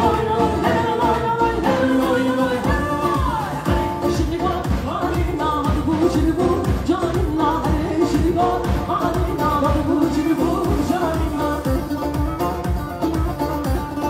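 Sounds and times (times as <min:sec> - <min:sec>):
fast steady drum beat: 0:00.0 - 0:14.0
keyboard backing: 0:00.0 - 0:14.0
woman singing into a microphone: 0:00.0 - 0:14.0.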